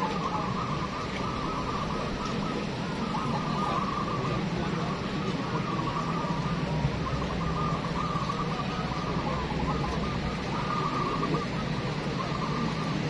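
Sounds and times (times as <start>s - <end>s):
doves cooing: 0.0s - 13.0s
steady low hum: 0.0s - 13.0s.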